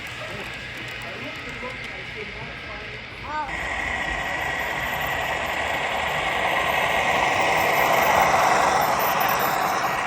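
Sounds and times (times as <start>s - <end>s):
model train rumbling: 0.0s - 10.0s
steady high hum: 0.0s - 10.0s.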